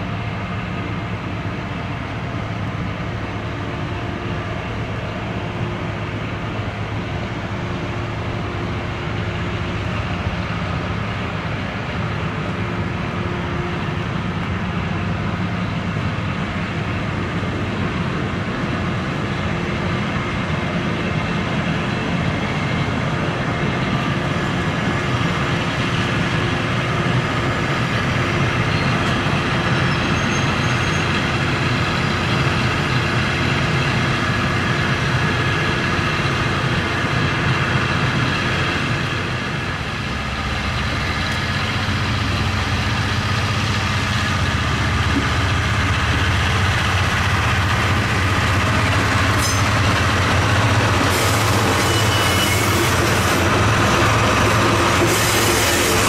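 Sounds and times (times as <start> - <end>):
locomotive engine running: 0.0 - 56.0.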